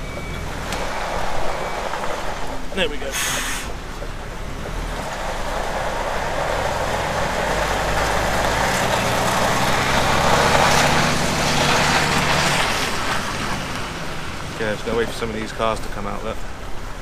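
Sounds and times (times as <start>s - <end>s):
truck diesel engine in cab: 0.0s - 17.0s.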